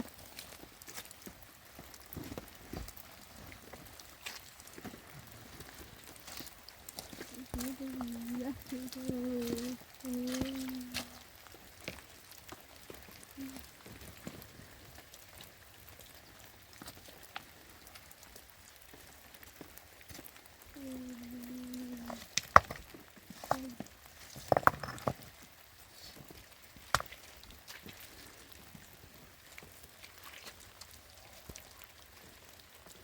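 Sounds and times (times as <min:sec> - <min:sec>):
rain patter and drips: 0:00.0 - 0:33.0.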